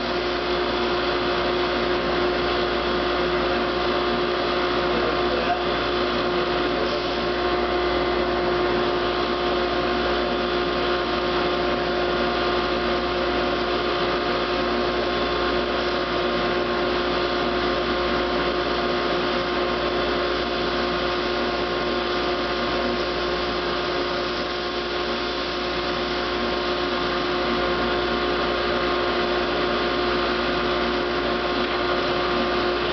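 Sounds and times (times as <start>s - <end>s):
drum sander running: 0.0s - 32.9s
dust collector rushing air: 0.0s - 32.9s.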